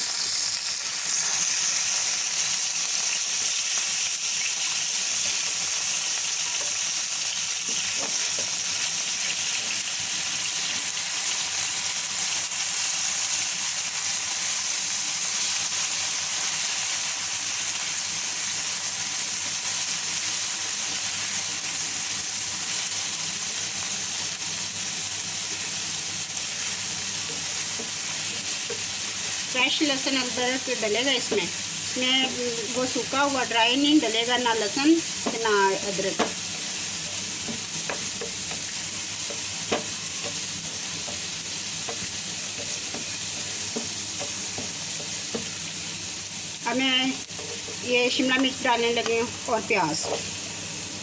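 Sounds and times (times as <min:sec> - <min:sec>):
paste sizzling in hot oil: 0:00.0 - 0:51.0.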